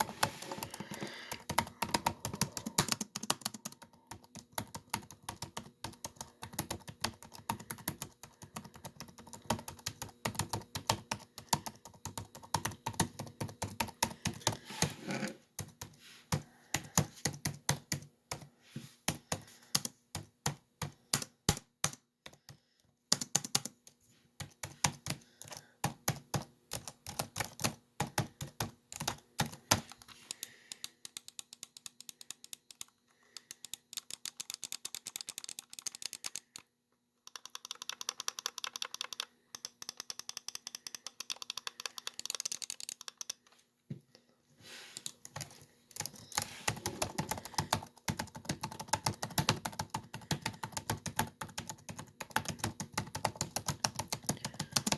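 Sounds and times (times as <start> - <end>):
laptop keyboard typing: 0.0 - 36.7, 37.3 - 43.4, 45.0 - 54.9.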